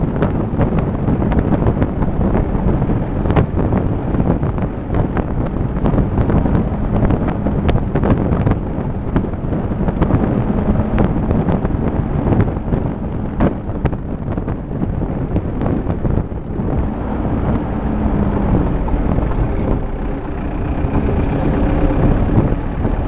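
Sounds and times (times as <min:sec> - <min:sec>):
engine and tyre rumble: 0:00.0 - 0:23.0
knocks and rattles: 0:03.3 - 0:23.0.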